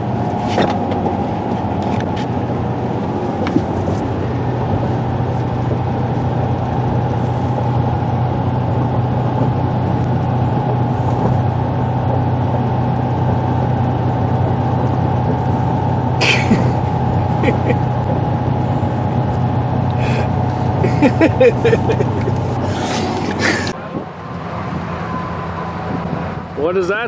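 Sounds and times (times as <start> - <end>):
vehicle engine and road drone: 0.0 - 27.0.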